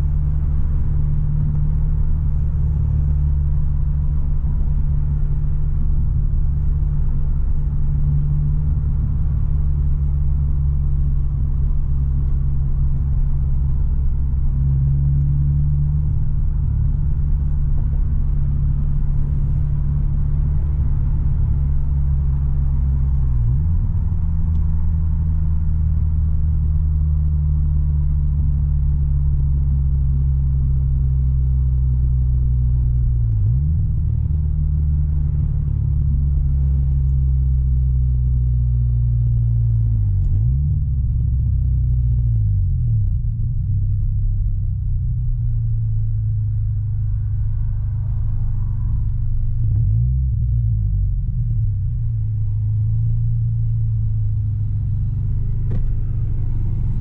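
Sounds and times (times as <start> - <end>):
car engine droning at cruise: 0.0 - 57.0.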